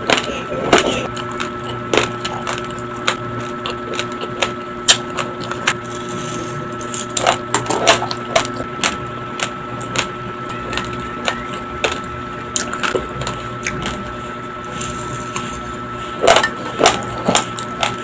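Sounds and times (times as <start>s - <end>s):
faint steady hum: 0.0s - 18.0s
raw rice crunching when chewed: 0.0s - 18.0s.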